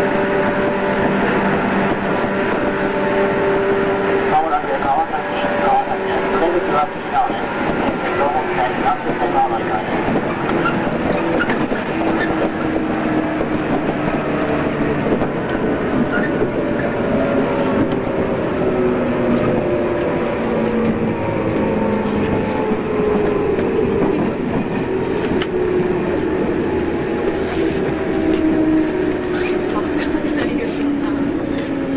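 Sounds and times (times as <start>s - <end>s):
train motor hum: 0.0s - 31.9s
wheels rumbling on rail: 0.0s - 31.9s.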